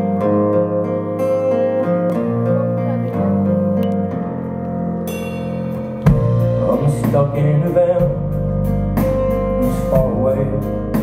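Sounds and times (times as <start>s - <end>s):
live band playing: 0.0s - 11.0s.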